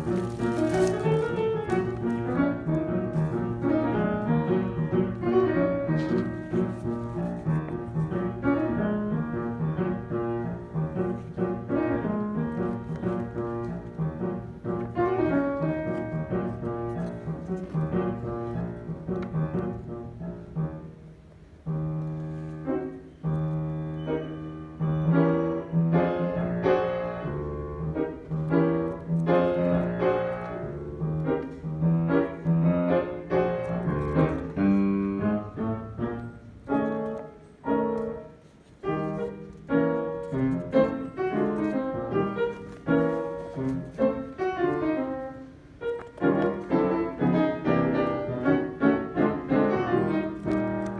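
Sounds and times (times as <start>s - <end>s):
piano piece: 0.0s - 50.9s.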